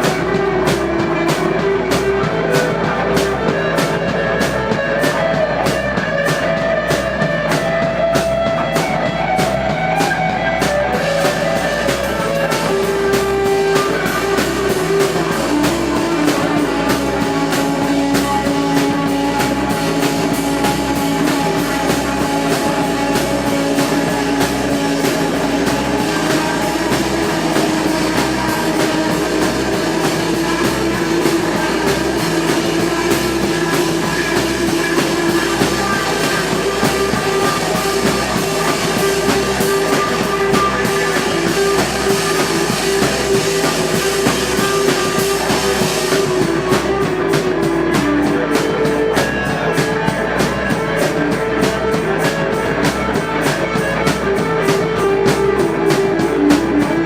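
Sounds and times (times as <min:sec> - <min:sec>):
droning electric guitar: 0:00.0 - 0:57.0
drum beat: 0:00.0 - 0:57.0.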